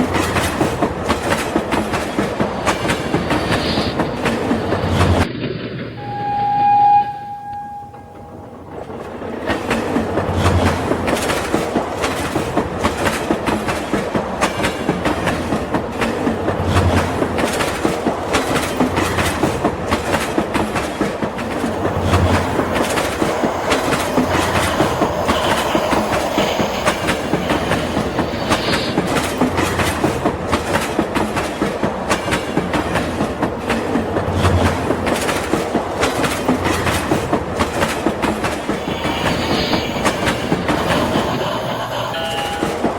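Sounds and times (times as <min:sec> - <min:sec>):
toy train clickety-clack: 0:00.0 - 0:05.3, 0:09.4 - 0:42.9.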